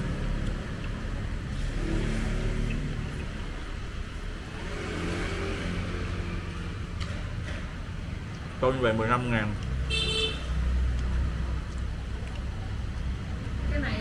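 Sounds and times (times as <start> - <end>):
road traffic rumble: 0.0 - 14.0
vehicle engines passing: 0.0 - 14.0.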